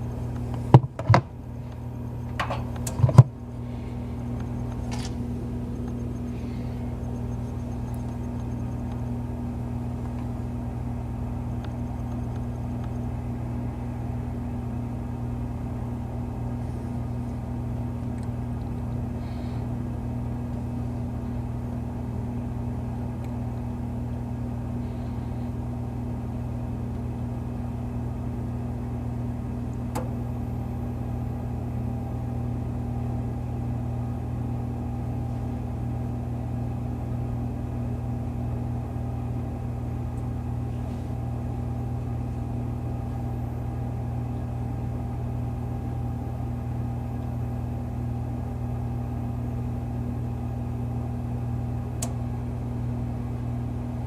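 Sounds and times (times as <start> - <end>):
toaster oven humming: 0.0 - 54.0.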